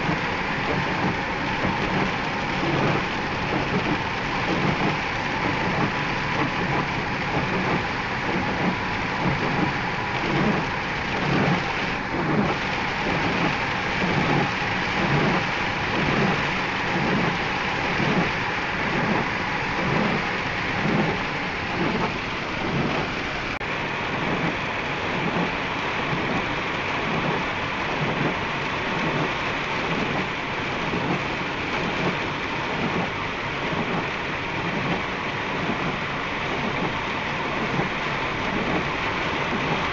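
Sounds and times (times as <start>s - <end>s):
heavy rain on a car: 0.0s - 39.9s
road and tyre noise: 0.0s - 39.9s.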